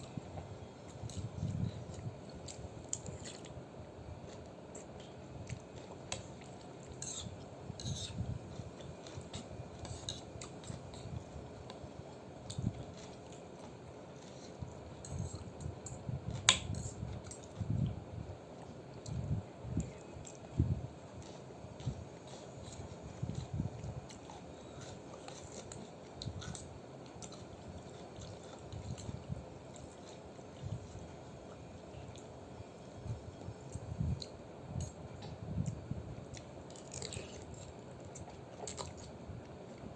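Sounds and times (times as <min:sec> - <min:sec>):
soft chewing: 0:00.0 - 0:39.9.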